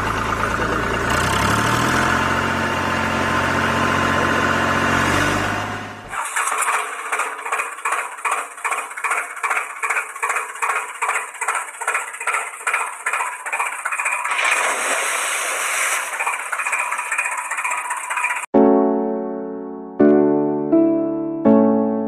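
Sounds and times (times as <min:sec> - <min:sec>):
tractor engine chugging: 0:00.0 - 0:05.2, 0:05.9 - 0:18.5.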